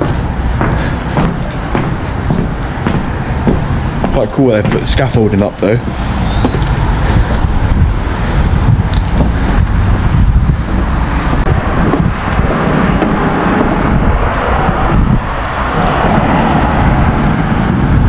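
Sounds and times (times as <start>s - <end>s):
road traffic: 0.0s - 18.0s
wind buffeting microphone: 0.0s - 18.0s.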